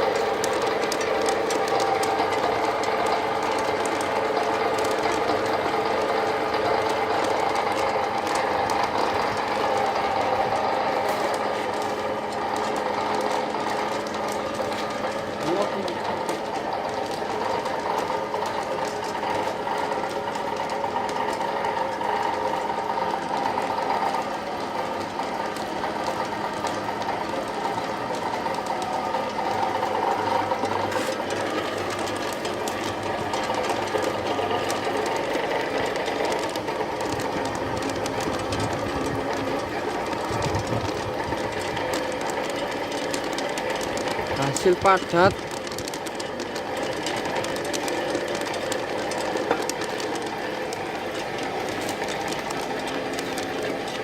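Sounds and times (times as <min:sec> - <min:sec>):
pellet mill running: 0:00.0 - 0:54.0.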